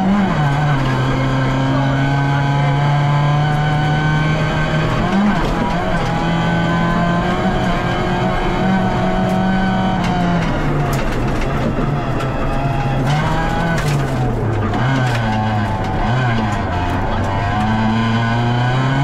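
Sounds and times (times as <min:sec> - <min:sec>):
rally car engine: 0:00.0 - 0:19.0
road noise rushing: 0:00.0 - 0:19.0.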